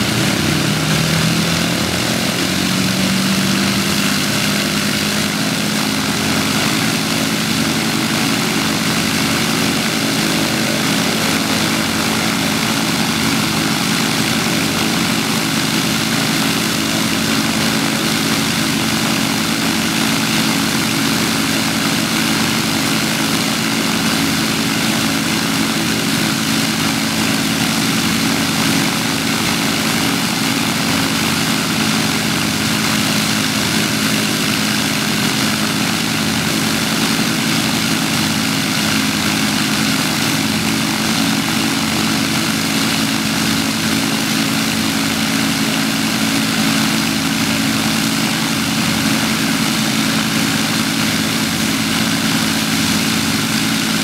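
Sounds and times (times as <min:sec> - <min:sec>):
propeller aircraft engines droning: 0:00.0 - 0:54.0.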